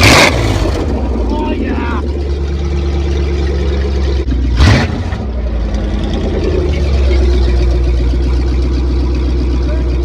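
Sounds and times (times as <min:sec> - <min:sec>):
truck engine idling and revving: 0:00.0 - 0:10.0.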